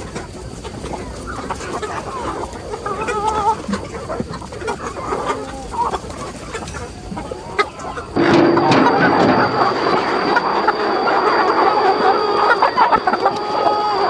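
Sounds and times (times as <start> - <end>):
chicken wavering call: 0.0 - 14.0
chickens clucking: 0.0 - 14.0.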